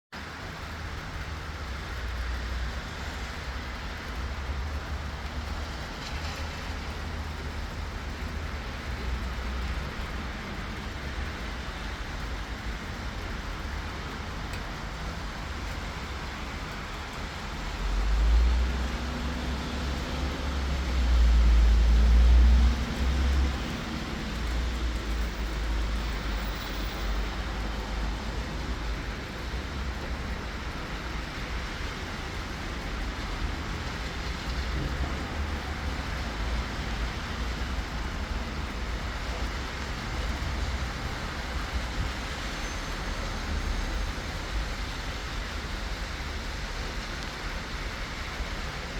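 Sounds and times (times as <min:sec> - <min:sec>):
low traffic rumble: 0:00.1 - 0:48.9
rain hissing on street: 0:00.1 - 0:48.9.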